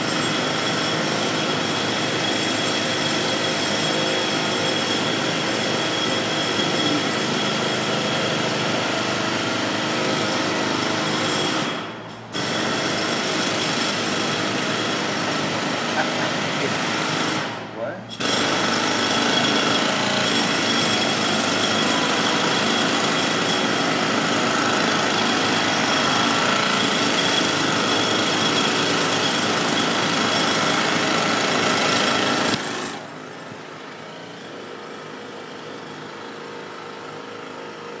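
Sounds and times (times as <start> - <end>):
jackhammer running: 0.0 - 38.0.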